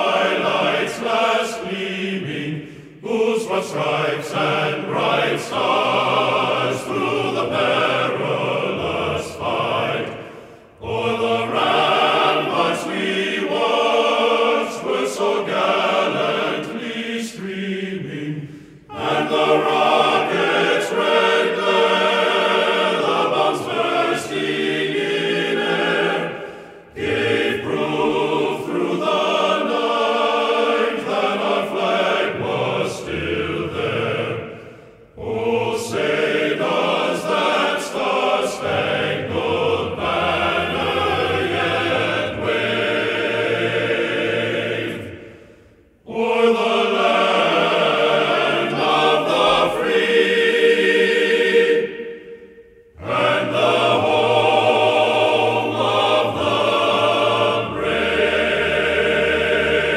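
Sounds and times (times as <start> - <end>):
choral singing: 0.0 - 59.9.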